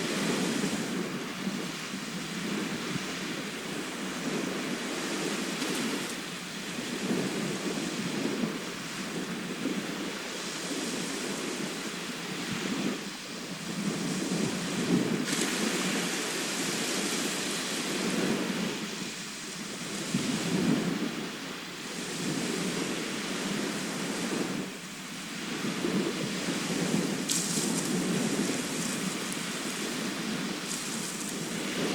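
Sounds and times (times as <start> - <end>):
sea waves breaking on shore: 0.0 - 31.9.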